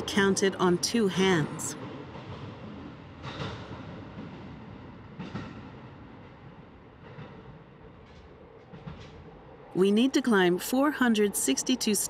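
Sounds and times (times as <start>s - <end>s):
train rumbling in tunnel: 0.0s - 12.0s.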